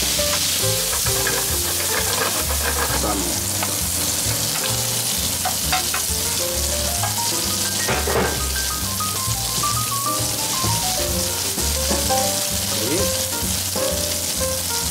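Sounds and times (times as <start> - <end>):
food sizzling in pan: 0.0 - 14.9.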